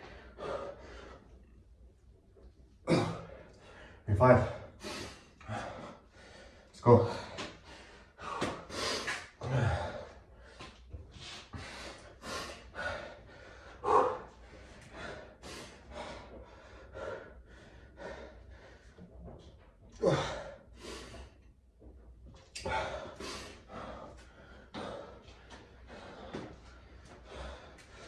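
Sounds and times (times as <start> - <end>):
man breathing hard: 0.0 - 1.6, 2.9 - 19.4, 20.0 - 21.5, 22.6 - 28.0.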